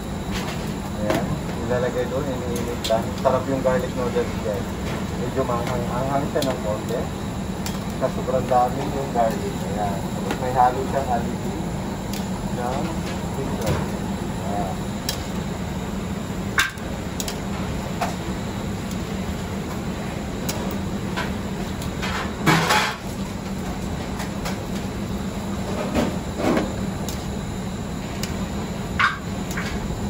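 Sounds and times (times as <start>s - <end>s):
gas burners and exhaust drone: 0.0s - 30.0s.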